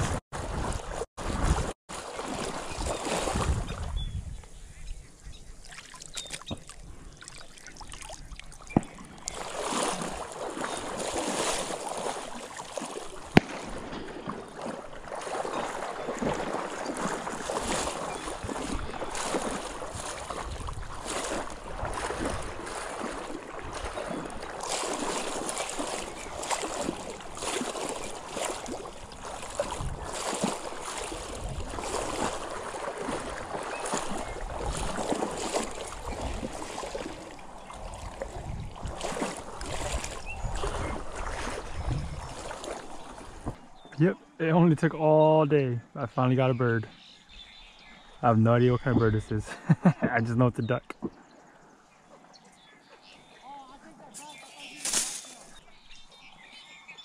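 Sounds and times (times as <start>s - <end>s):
water sloshing from wading: 0.0s - 4.2s, 5.2s - 44.4s, 50.9s - 56.7s.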